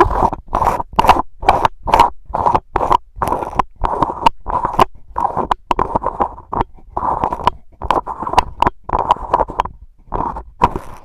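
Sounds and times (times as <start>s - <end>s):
microphone grille scraping rubs: 0.0s - 11.0s.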